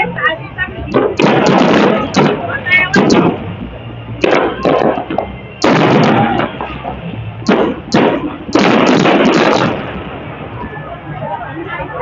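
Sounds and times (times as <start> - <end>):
fireworks bangs: 0.8 - 11.0
fireworks crackle: 0.9 - 10.9.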